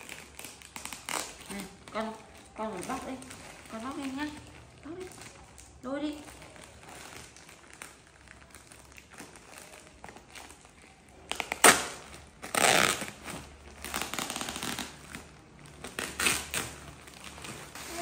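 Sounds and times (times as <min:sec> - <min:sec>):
plastic bag crinkling: 0:00.0 - 0:18.0
plastic bag ripping: 0:00.0 - 0:18.0.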